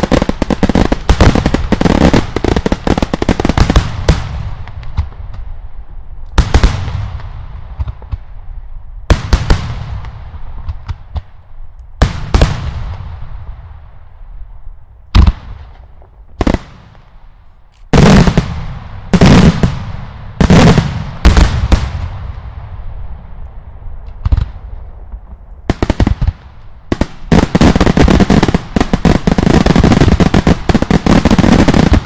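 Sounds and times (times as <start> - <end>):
fireworks exploding: 0.0 - 14.2, 15.1 - 32.0.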